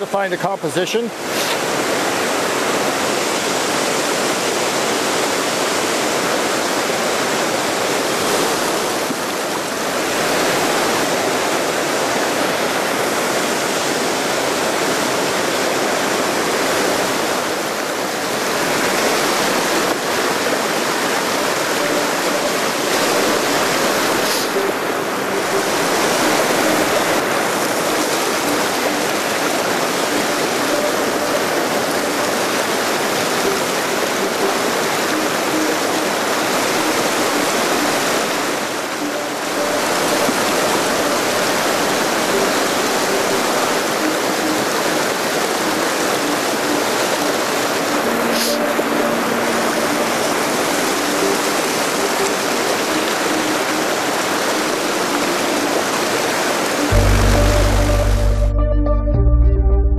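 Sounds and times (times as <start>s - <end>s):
waterfall rushing: 0.0s - 58.6s.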